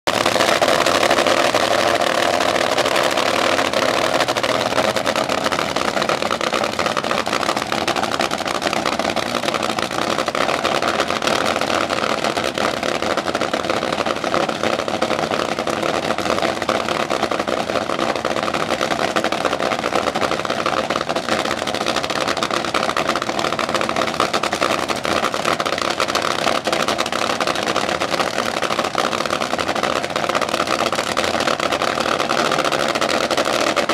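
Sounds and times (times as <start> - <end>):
dragster engine idling: 0.0 - 33.9.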